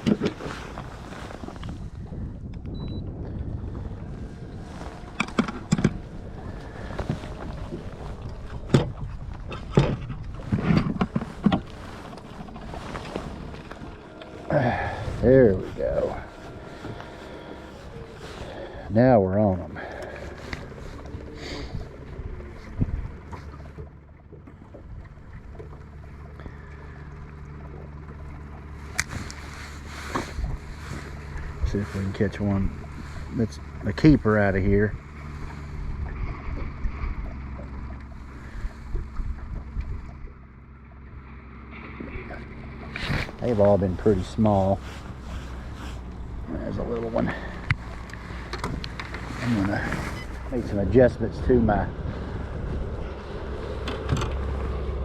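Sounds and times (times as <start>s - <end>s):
knocks and clunks on a boat: 0.0s - 55.0s
low steady rumble: 0.0s - 55.0s.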